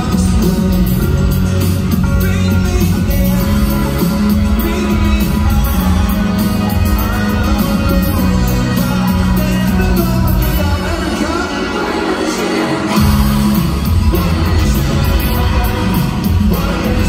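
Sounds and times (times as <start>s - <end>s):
live pop band over sound system: 0.0s - 17.0s.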